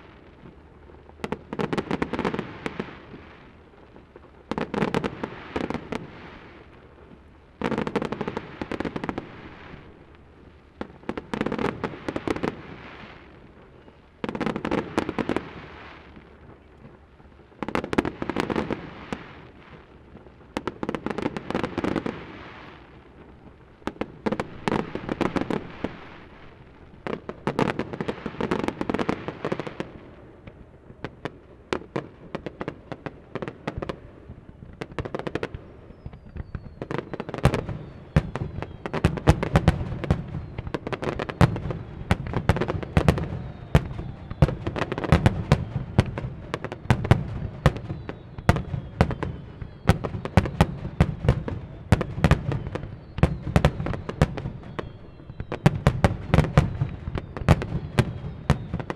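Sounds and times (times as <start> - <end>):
fireworks bursting: 0.0 - 58.9.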